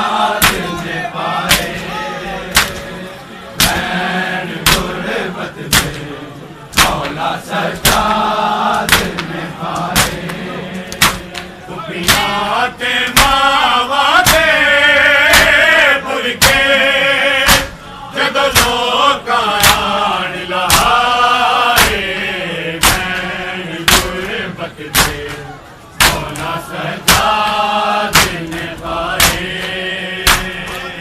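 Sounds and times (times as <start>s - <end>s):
men chanting a lament: 0.0s - 31.0s
men striking chests: 0.0s - 31.0s.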